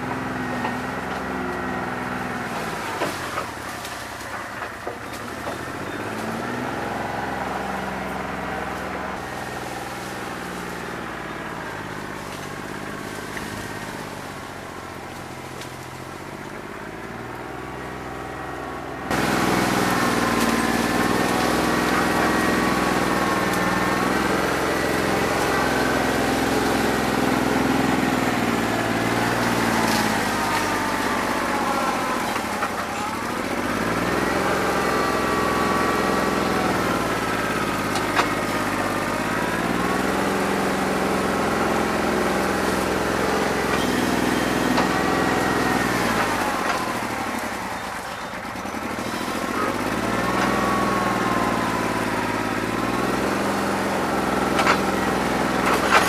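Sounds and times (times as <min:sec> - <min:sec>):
tractor diesel engine running rough: 0:00.0 - 0:56.0.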